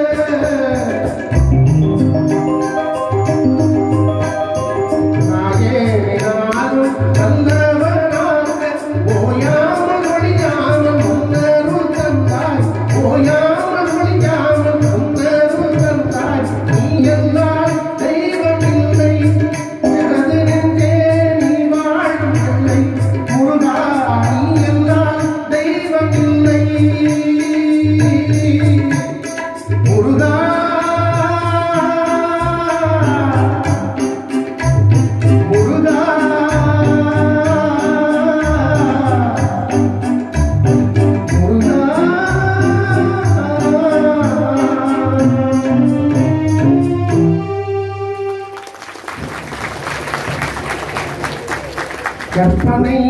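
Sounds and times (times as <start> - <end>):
man singing into a microphone: 0.0 - 2.0, 3.4 - 40.5, 41.2 - 47.4, 52.3 - 53.0.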